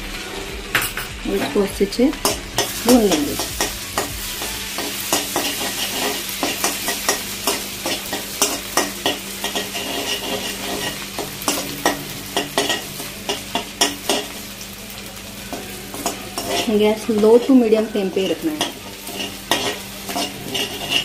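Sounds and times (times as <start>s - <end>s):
paste sizzling in hot oil: 0.0s - 21.0s
metal spoon scraping a pan: 2.2s - 14.4s, 15.5s - 21.0s.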